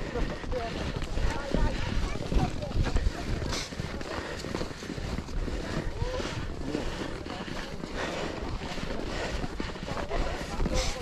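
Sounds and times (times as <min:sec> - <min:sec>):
footsteps in packed snow: 0:00.0 - 0:11.0
wind rumbling on microphone: 0:00.0 - 0:11.0.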